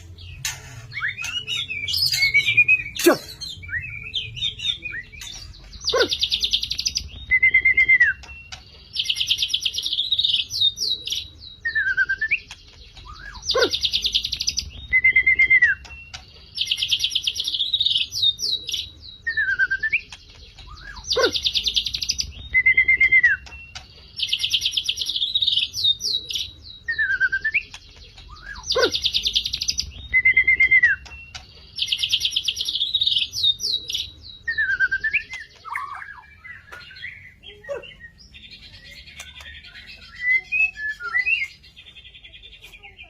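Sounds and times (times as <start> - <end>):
songbird singing trills and whistles: 0.0 - 43.0.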